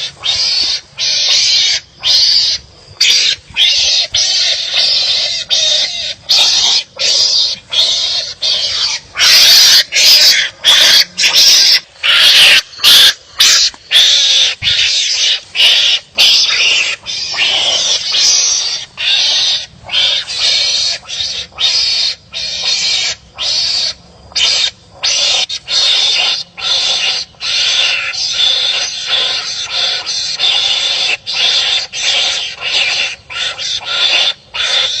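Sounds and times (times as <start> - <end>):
animals' harsh barking calls: 0.0 - 35.0.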